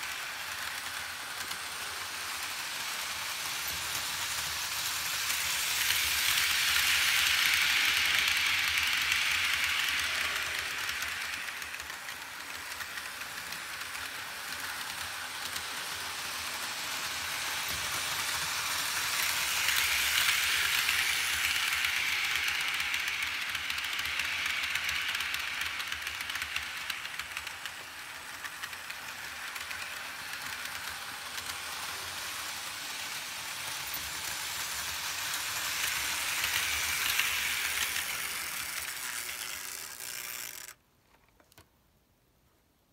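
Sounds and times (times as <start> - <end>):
model train rattling on metal track: 0.0 - 40.8.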